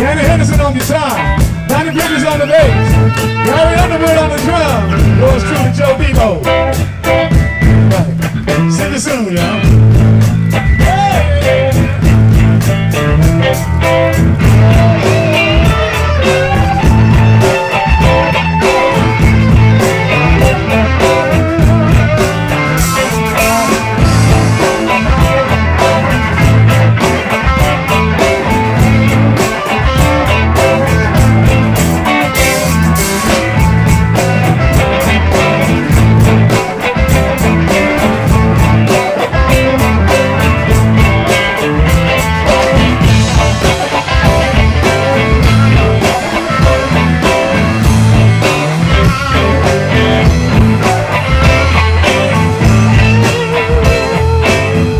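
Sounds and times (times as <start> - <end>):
electric blues band playing: 0.0 - 54.9.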